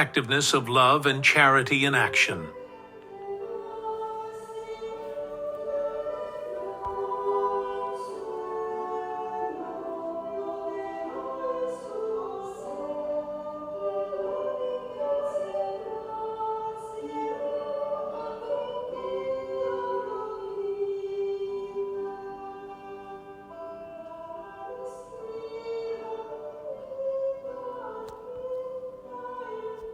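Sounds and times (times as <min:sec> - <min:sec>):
choir singing held notes: 0:00.0 - 0:29.9.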